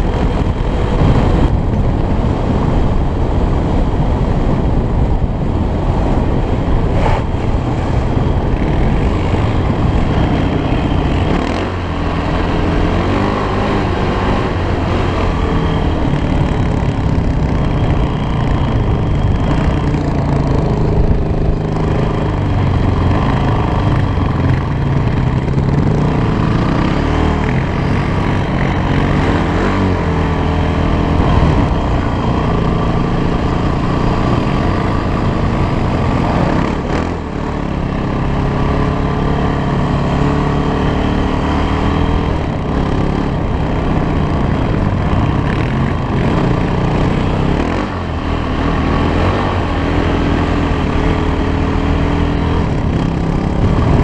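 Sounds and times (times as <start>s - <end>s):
quad engine revving: 6.8s - 54.0s.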